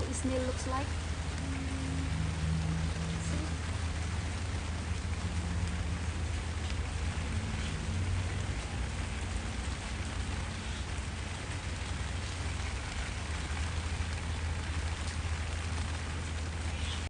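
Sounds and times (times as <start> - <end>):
heavy rain hissing: 0.0 - 17.0
low rumble: 0.0 - 17.0.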